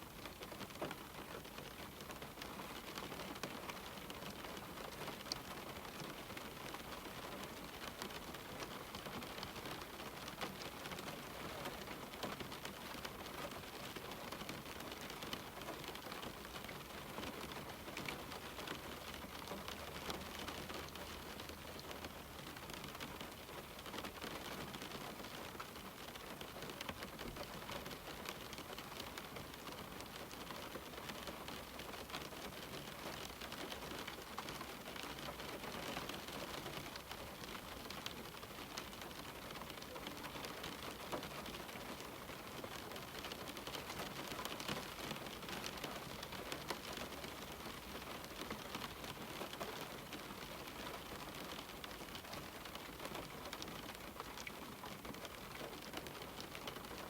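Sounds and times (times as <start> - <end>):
rain on a window pane: 0.0 - 57.0.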